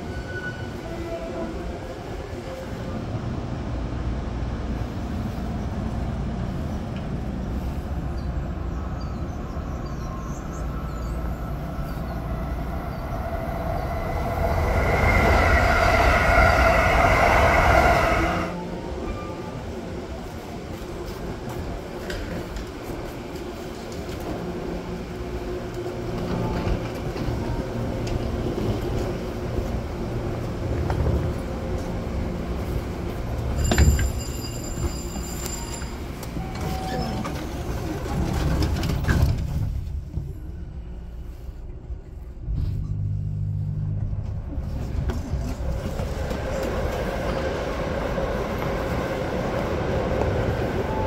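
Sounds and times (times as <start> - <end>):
train wheels rumbling on track: 0.0 - 51.0.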